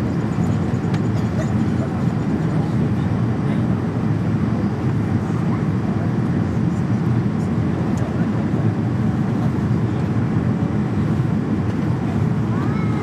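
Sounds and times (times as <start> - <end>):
jet airliner cabin drone: 0.0 - 13.0.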